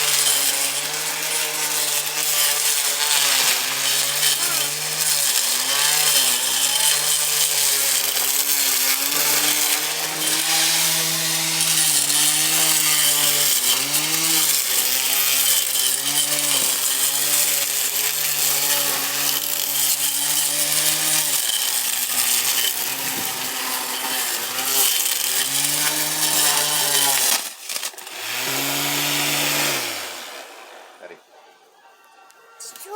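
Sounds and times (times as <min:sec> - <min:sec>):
blender motor high whine: 0:00.0 - 0:30.8.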